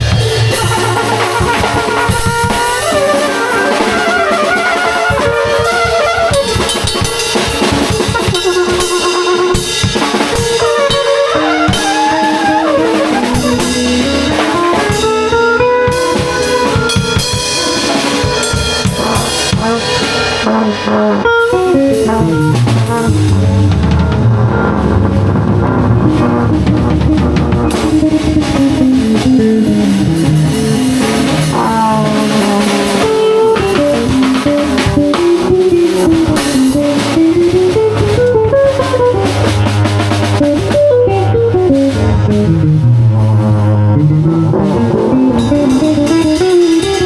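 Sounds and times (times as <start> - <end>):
drum kit beat with rimshots: 0.0 - 47.0
low bass notes: 0.0 - 47.0
wavering melodic lead lines: 0.0 - 47.0.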